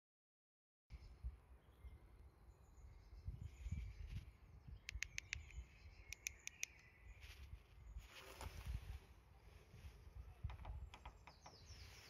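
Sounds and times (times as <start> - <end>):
small bird chirping: 0.9 - 9.0, 10.2 - 12.0.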